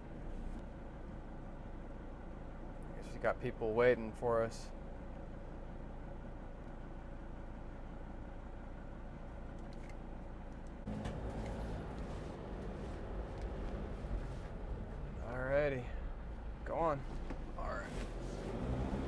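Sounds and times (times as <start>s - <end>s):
van engine and road rumble: 0.0s - 19.0s.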